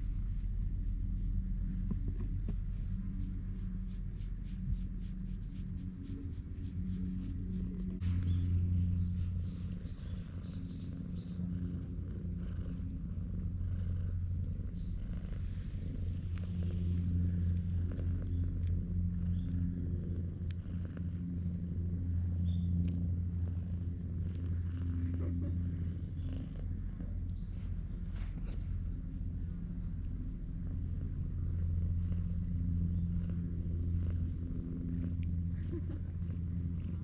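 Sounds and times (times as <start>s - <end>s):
cat purring: 0.0s - 37.0s.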